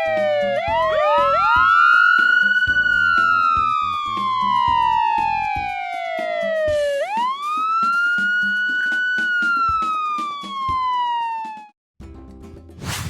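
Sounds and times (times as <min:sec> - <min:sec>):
cartoon siren wailing: 0:00.0 - 0:11.7
background music with steady beat: 0:00.0 - 0:12.3.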